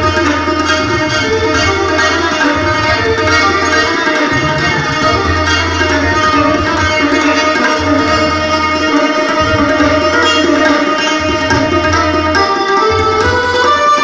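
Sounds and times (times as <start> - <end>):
plucked string instrument: 0.0 - 14.0
tabla drumming: 0.0 - 14.0.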